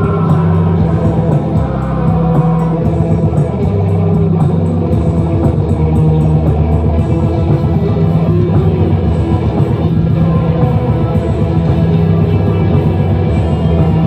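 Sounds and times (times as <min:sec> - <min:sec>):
bass guitar: 0:00.0 - 0:14.0
distorted electric guitars: 0:00.0 - 0:14.0
drum kit: 0:00.0 - 0:14.0.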